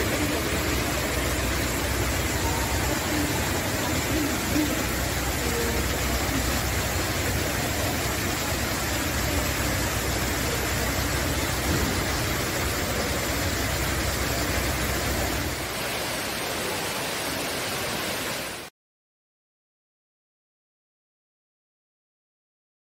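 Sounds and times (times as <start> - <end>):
water rushing down waterfall wall: 0.0 - 18.7.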